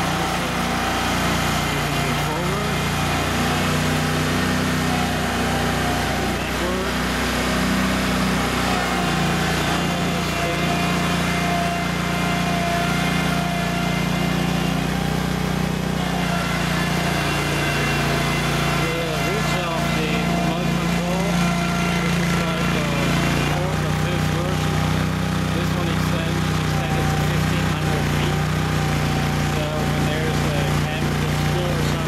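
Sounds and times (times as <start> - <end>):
tracked loader engine running: 0.0 - 32.0.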